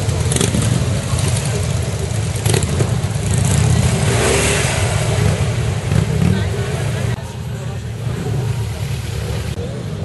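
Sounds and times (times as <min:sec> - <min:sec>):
crowd chatter: 0:00.0 - 0:10.0
motorcycle engines idling: 0:00.0 - 0:10.0.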